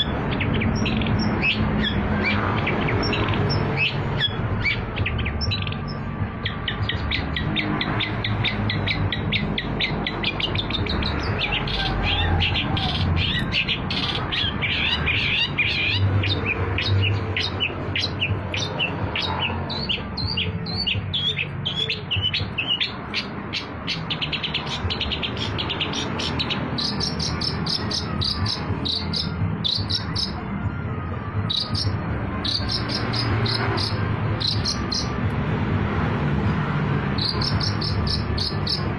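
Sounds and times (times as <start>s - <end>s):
shrike singing rapid chirps: 0.0s - 30.4s, 31.5s - 38.9s.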